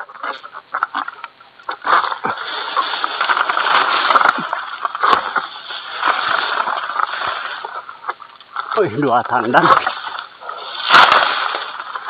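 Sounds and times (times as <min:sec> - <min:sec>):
leaves rustling and crackling: 0:00.0 - 0:12.0.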